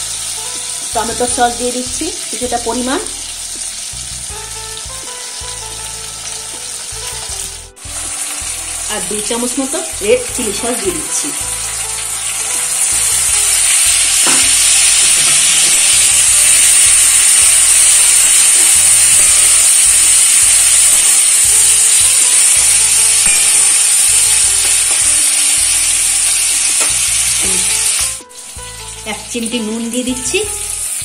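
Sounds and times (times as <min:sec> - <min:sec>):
food sizzling in hot oil: 0:00.0 - 0:31.0.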